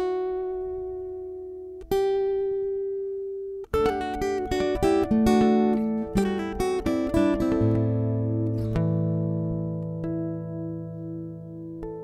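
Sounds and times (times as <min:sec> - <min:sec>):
acoustic guitar chords ringing: 0:00.0 - 0:12.0
picked guitar melody: 0:00.0 - 0:12.0.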